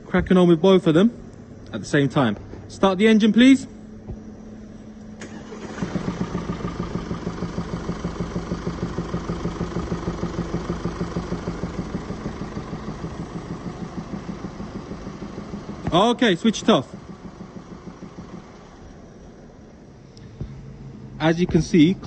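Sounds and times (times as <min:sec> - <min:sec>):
diesel engine cranking: 0:00.0 - 0:22.0
diesel engine idling with knock: 0:03.9 - 0:22.0.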